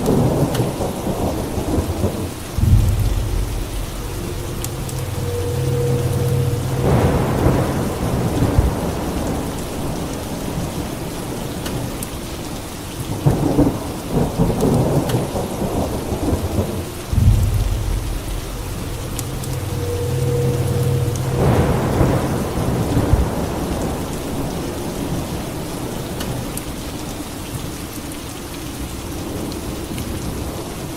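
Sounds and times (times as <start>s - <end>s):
thunder rumbling: 0.0s - 11.8s, 13.1s - 26.4s
steady rain: 0.0s - 30.9s.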